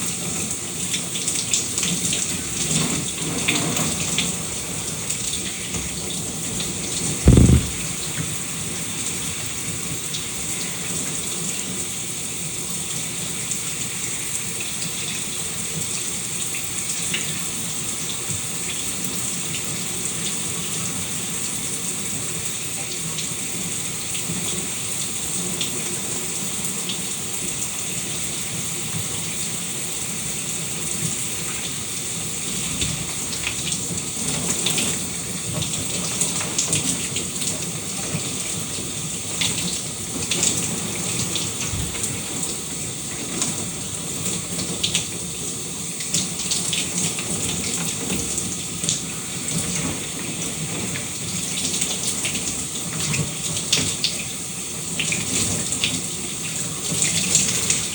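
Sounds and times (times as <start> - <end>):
shower water running: 0.0 - 57.9.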